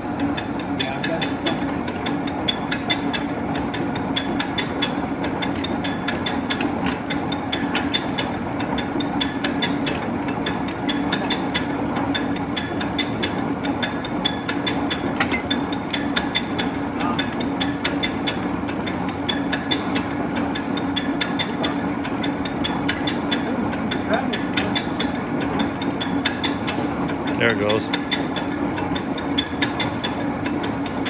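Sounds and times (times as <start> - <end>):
lathe machine hum: 0.0 - 31.0.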